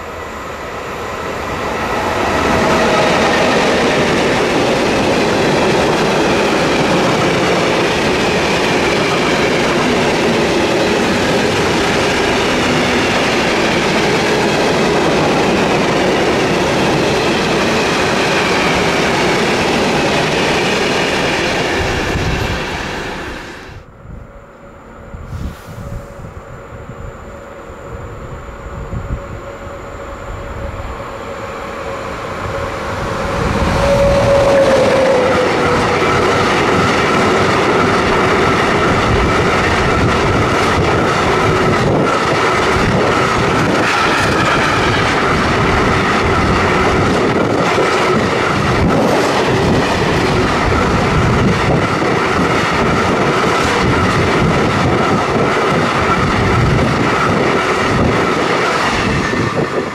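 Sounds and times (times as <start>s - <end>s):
electric locomotive whine: 0.0s - 59.9s
train wheels clattering on rails: 2.0s - 23.2s, 32.7s - 59.9s.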